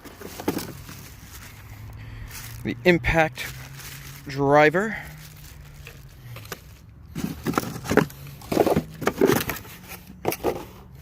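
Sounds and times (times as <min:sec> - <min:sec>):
packaging rustling and crackling: 0:00.0 - 0:02.7, 0:03.3 - 0:04.4, 0:05.0 - 0:10.6.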